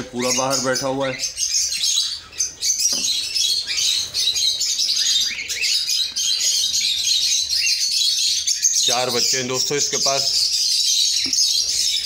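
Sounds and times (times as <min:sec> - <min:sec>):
cockatiels chirping and calling: 0:00.0 - 0:12.0.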